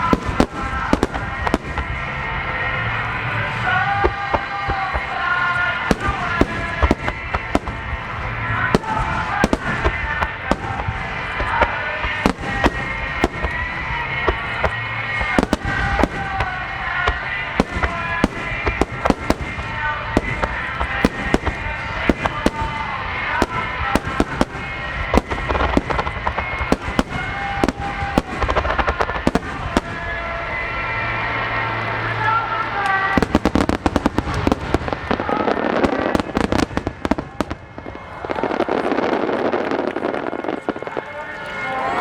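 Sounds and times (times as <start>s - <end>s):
fireworks bangs: 0.0s - 42.0s.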